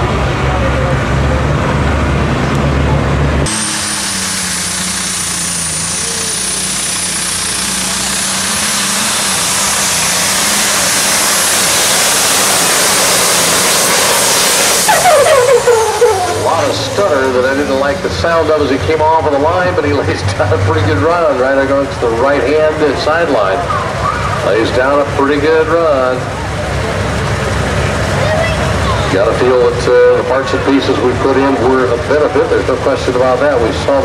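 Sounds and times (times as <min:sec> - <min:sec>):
tractor engine with high whine: 0:00.0 - 0:34.0.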